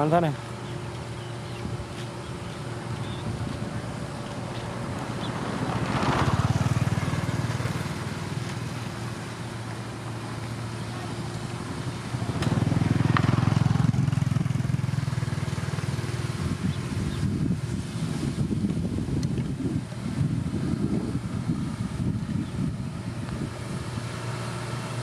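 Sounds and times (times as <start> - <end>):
diesel engine of heavy machinery: 0.0 - 25.0.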